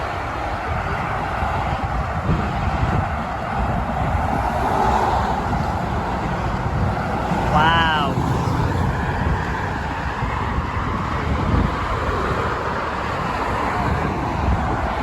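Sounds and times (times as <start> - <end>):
motorway traffic rushing: 0.0 - 15.0
wind buffeting microphone: 0.0 - 15.0.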